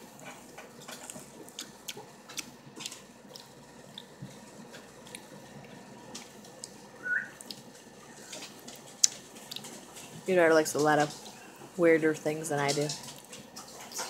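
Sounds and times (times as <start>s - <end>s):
small clicks and wet ticks: 0.8s - 6.8s, 7.4s - 11.4s, 12.6s - 14.0s.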